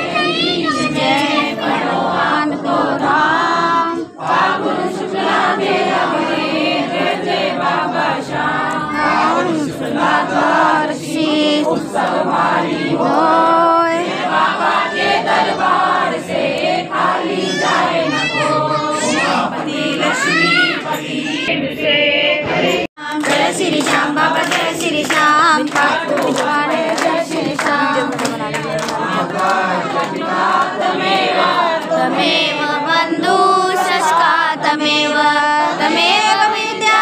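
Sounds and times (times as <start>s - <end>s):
crowd singing devotional chant: 0.0s - 37.0s.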